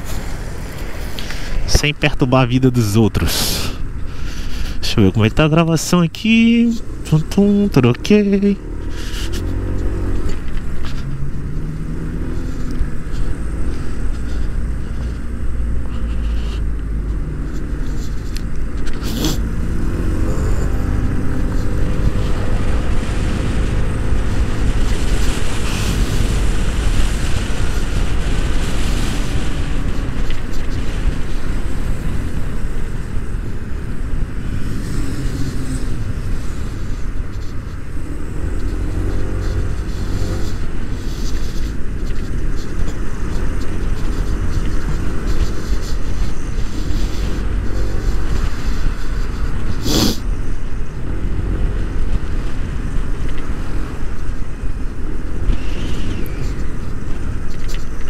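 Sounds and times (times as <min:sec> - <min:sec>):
road noise: 0:00.0 - 0:58.0
wind rumble on microphone: 0:03.0 - 0:58.0
engine revving: 0:06.3 - 0:57.8.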